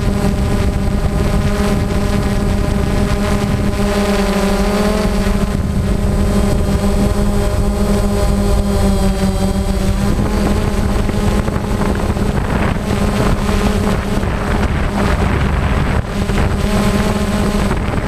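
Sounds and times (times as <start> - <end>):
drone propellers buzzing: 0.0 - 18.0
wind noise on microphone: 0.0 - 18.0.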